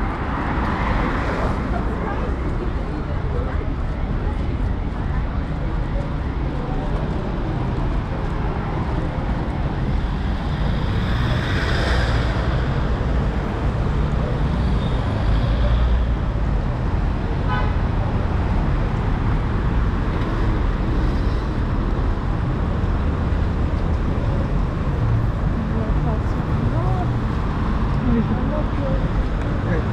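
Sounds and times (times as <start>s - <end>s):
cars driving by: 0.0s - 29.9s.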